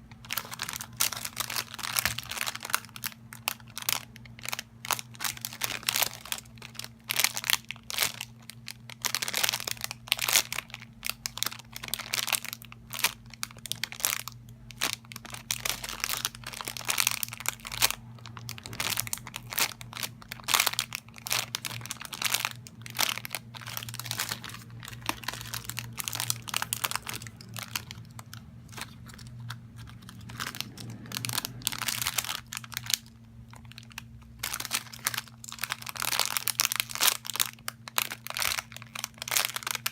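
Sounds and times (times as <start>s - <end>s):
low electrical hum: 0.0s - 39.9s
plastic wrapping crinkling: 0.0s - 39.9s.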